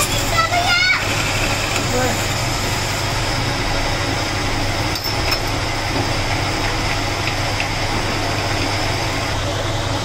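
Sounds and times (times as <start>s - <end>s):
metal lathe humming: 0.0s - 10.0s.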